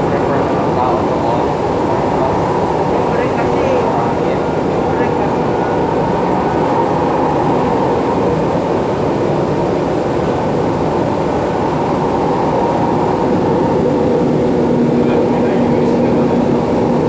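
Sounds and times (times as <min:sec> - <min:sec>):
tram wheels on rails humming: 0:00.0 - 0:17.0.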